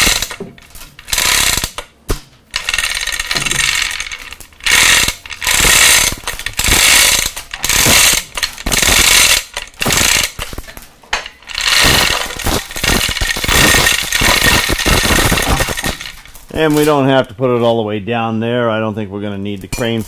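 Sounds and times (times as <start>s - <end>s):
chain hoist ratchet clattering: 0.0s - 1.8s, 2.5s - 17.0s.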